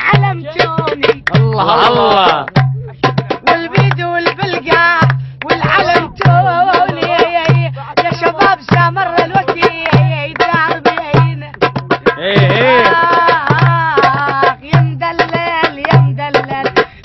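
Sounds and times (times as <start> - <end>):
hand drum percussion: 0.0 - 17.0.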